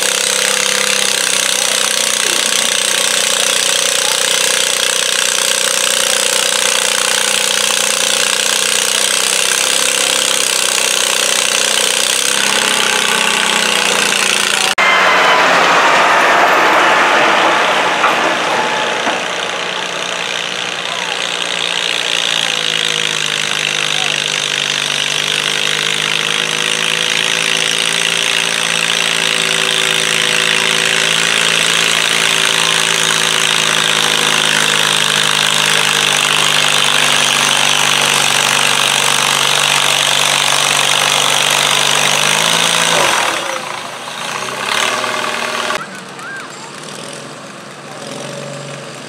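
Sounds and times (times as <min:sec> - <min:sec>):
tractor engine running under load: 0:00.0 - 0:14.8, 0:15.4 - 0:49.0.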